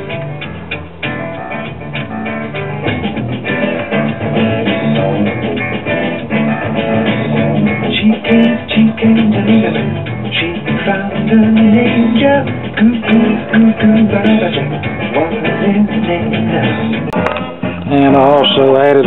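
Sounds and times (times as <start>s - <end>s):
guitar music from record player: 0.0s - 19.0s.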